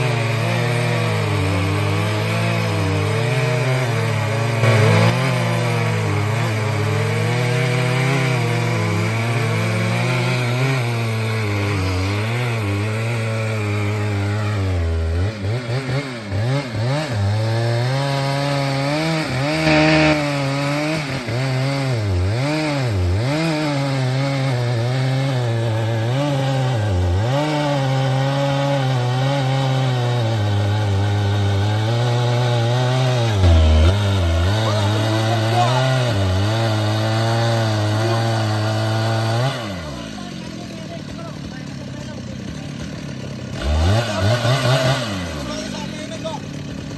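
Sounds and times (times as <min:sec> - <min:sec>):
chainsaw cutting log: 0:00.0 - 0:46.9.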